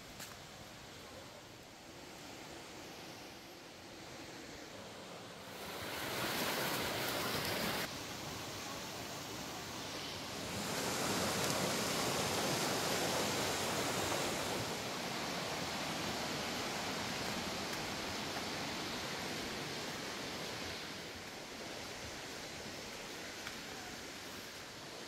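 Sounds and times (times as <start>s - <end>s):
river water rushing: 0.7s - 25.0s.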